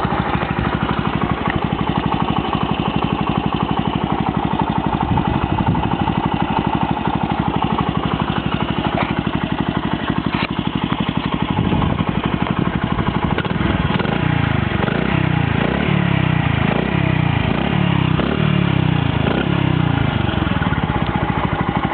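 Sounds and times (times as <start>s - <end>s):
small motorcycle engine idling: 0.0s - 21.9s.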